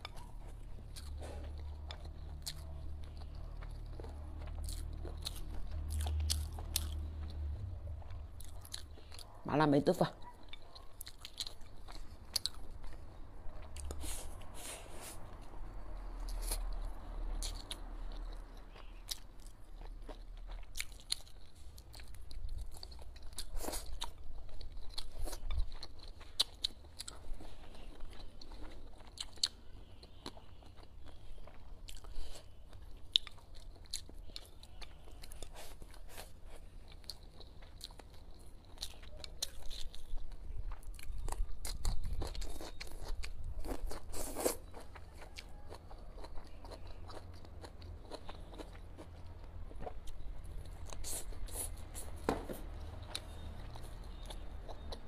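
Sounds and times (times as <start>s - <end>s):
person chewing food: 0.0s - 9.4s, 10.2s - 55.0s.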